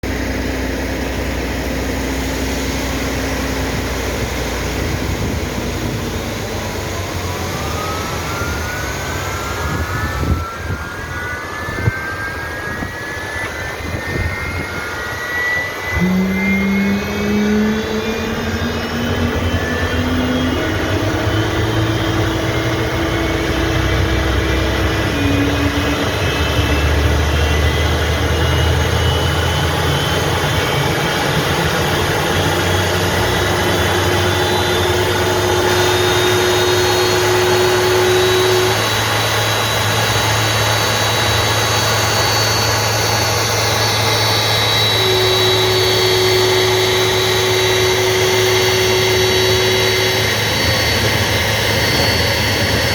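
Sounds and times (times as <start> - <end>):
jet engine starting up: 0.0 - 52.9.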